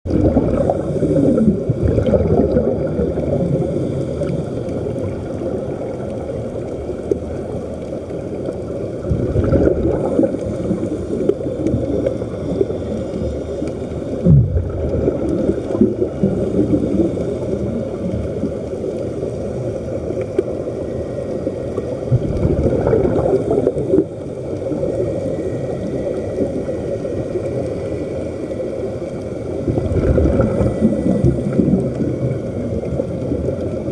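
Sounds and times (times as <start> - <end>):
underwater air bubbles gurgling: 0.0 - 33.9.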